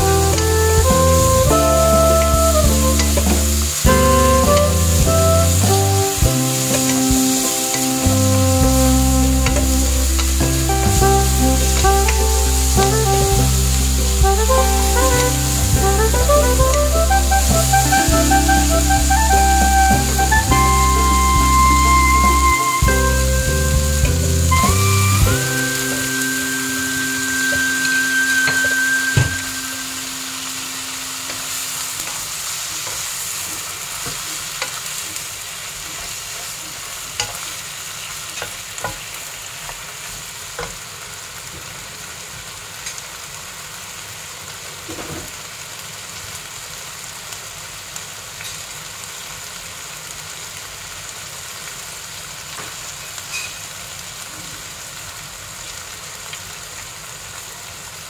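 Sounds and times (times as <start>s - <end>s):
vegetables sizzling in wok: 0.0s - 58.0s.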